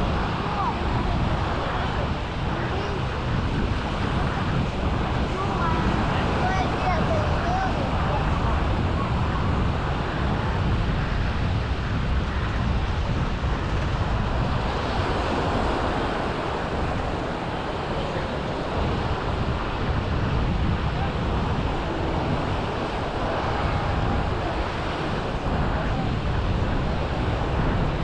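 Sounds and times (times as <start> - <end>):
sea surf rushing: 0.0 - 28.0
wind buffeting microphone: 0.0 - 28.0.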